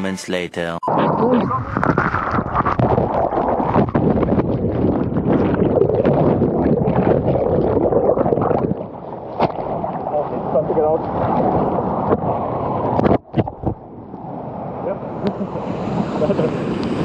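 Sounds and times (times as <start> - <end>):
muffled underwater surf rush: 0.8 - 17.0.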